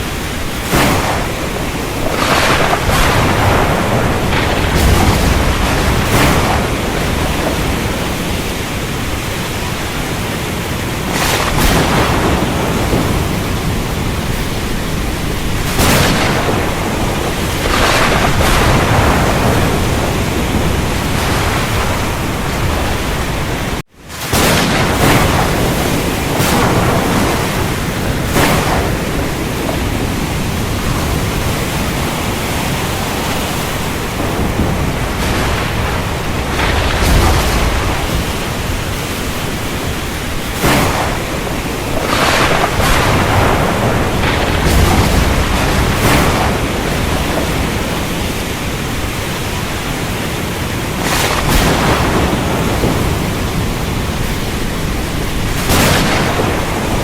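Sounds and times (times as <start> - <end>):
heavy rain: 0.0 - 57.0
thunder cracks and rumbles: 0.0 - 57.0.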